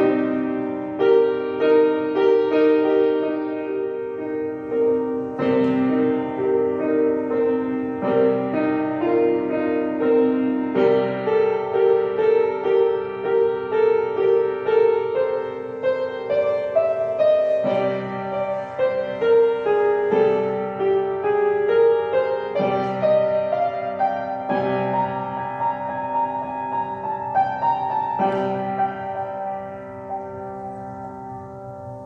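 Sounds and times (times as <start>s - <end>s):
solo piano music: 0.0s - 32.0s.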